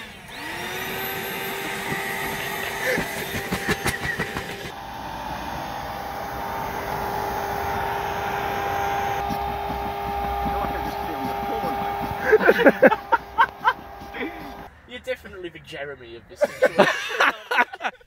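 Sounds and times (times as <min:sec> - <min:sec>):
electric air pump running: 0:00.0 - 0:14.7.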